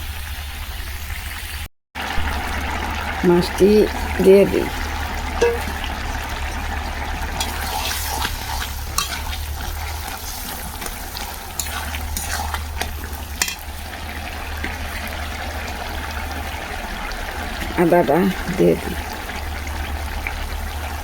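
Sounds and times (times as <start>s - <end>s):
food sizzling in hot oil: 0.3s - 21.0s.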